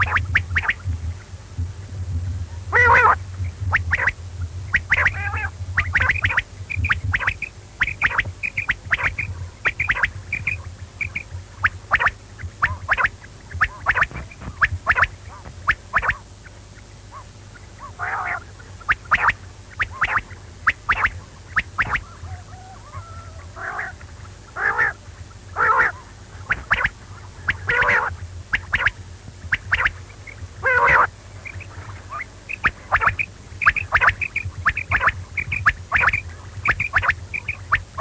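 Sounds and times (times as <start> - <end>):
quail calling short notes: 0.0 - 0.9, 2.7 - 38.0
rough quail call: 0.0 - 0.9, 2.7 - 38.0.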